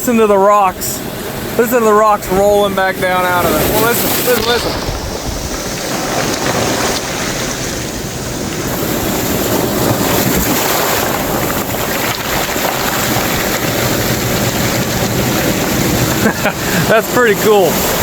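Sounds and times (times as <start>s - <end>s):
ocean surf surging on rocks: 0.0s - 18.0s
rocks rolling in backwash: 0.0s - 18.0s
wind buffeting microphone: 0.0s - 18.0s.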